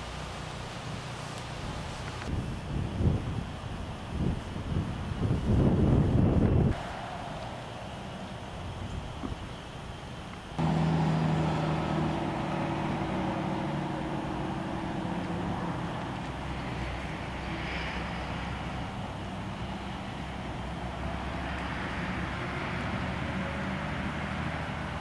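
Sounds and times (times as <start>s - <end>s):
engine droning hum: 0.0s - 25.0s
outdoor noise: 0.0s - 25.0s.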